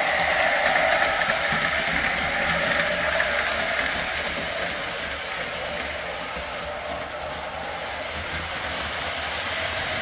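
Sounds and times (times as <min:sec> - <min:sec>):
wheels clicking on track: 0:00.0 - 0:10.0.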